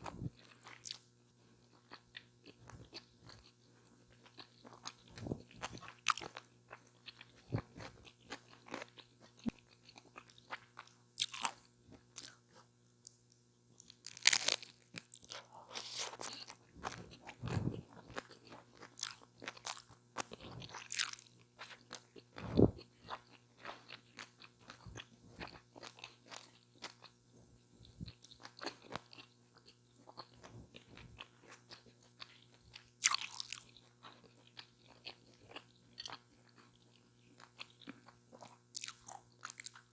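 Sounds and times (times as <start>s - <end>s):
crunchy bites and chewing: 1.6s - 12.7s, 13.8s - 27.2s, 27.8s - 39.9s.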